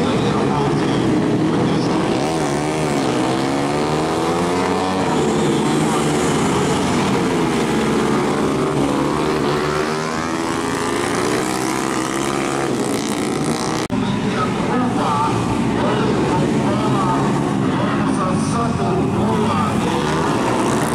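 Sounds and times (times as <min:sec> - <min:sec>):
motorcycle engines revving: 0:00.0 - 0:20.9.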